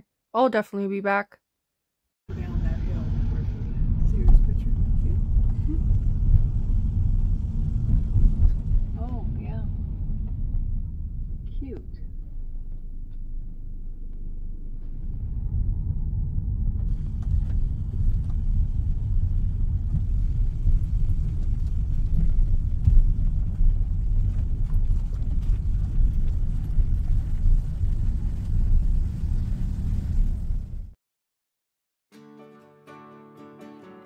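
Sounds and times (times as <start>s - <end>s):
road and wind noise in vehicle: 2.3s - 30.9s.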